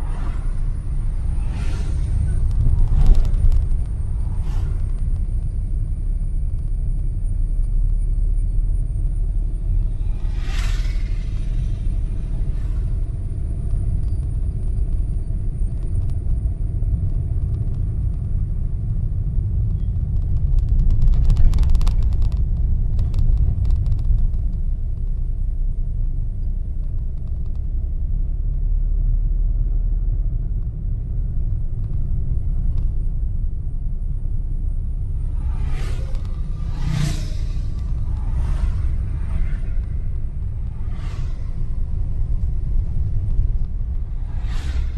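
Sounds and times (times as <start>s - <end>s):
vehicle low rumble: 0.0s - 44.9s.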